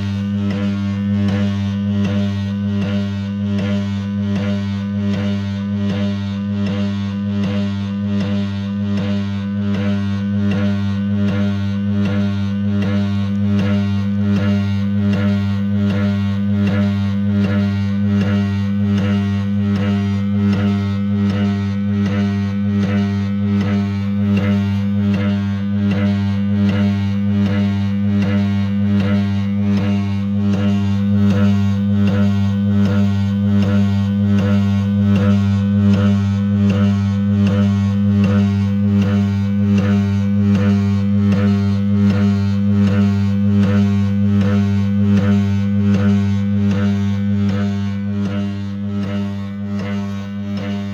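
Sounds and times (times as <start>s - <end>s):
strong low hum: 0.0s - 50.9s
faint regular clicks: 0.1s - 50.9s.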